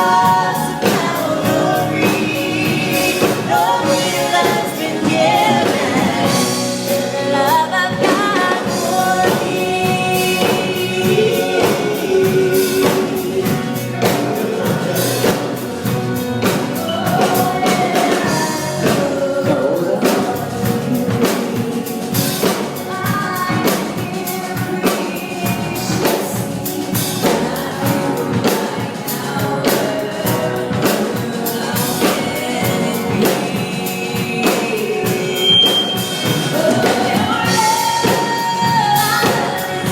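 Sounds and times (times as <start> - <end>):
drum kit: 0.0 - 39.9
gospel group singing in harmony: 0.0 - 39.9
piano: 0.0 - 39.9.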